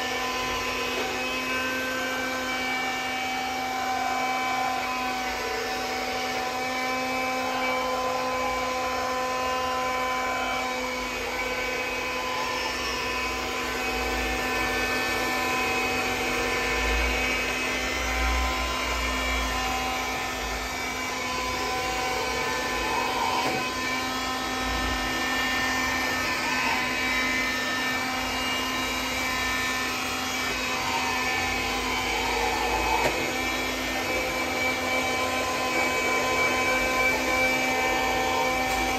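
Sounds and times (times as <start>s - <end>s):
robot floor scrubber whirring: 0.0s - 38.9s.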